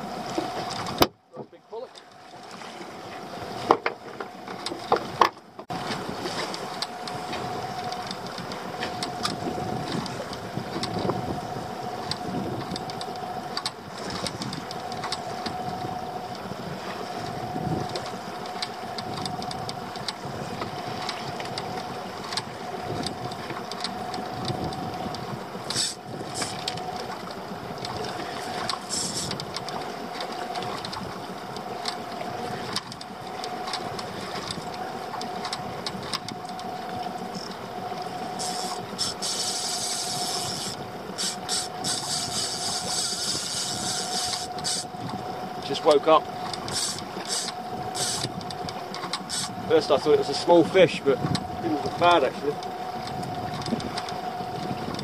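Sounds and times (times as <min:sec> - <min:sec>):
boat engine humming: 0:00.0 - 0:55.0
sea noise: 0:00.0 - 0:55.0
wind: 0:00.0 - 0:55.0.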